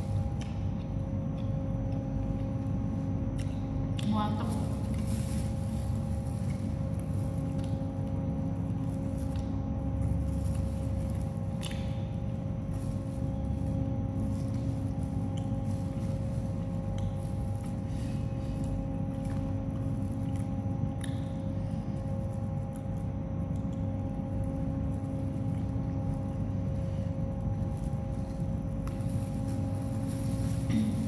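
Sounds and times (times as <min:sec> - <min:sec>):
faint chewing: 0:00.0 - 0:31.0
low rumble with hum: 0:00.0 - 0:31.0.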